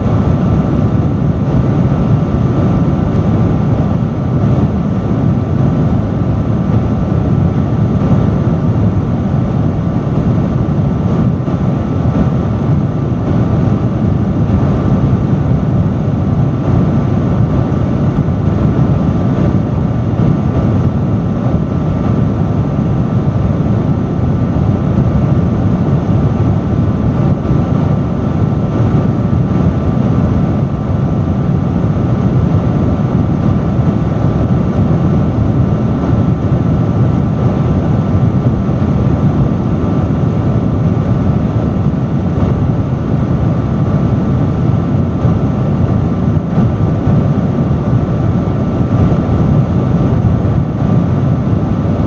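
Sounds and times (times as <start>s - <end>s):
faint steady whine: 0.0s - 52.0s
industrial fan airflow rush: 0.0s - 52.0s.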